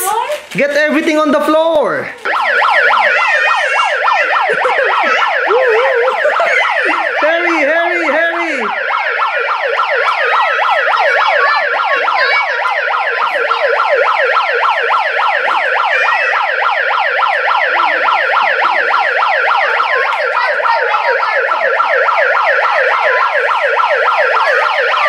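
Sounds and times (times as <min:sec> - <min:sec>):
toy megaphone siren: 0:02.2 - 0:25.0.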